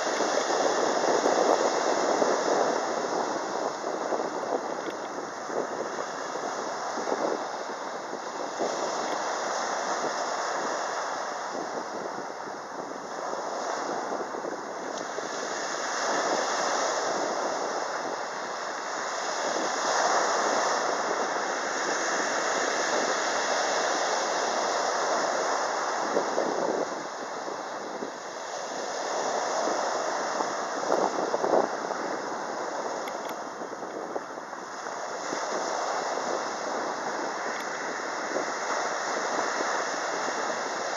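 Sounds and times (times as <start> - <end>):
surf washing onto beach: 0.0 - 40.9.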